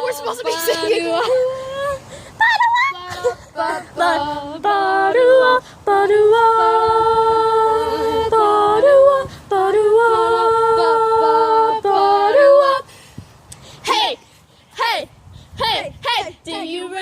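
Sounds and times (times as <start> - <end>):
voices singing unaccompanied: 0.0 - 17.0.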